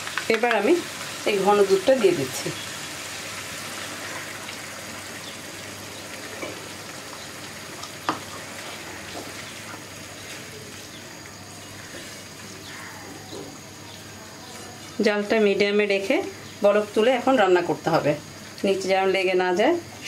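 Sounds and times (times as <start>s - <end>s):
gravy sizzling in a pan: 0.0s - 20.0s.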